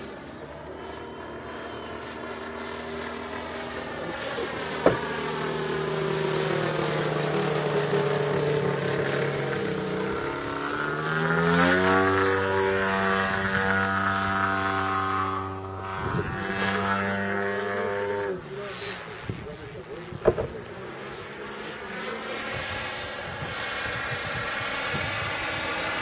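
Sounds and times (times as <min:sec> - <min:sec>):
model plane engine buzzing: 0:00.0 - 0:26.0.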